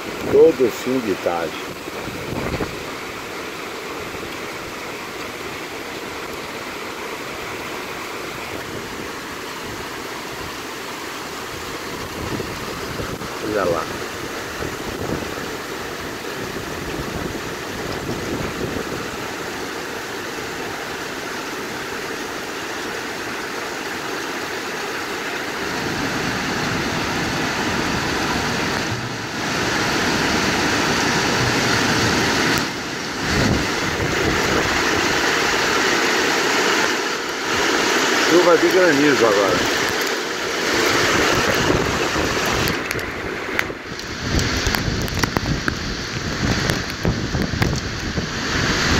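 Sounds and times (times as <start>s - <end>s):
strong wind: 0.0s - 6.4s, 7.2s - 22.3s, 25.2s - 48.9s
heavy rain: 0.0s - 48.9s.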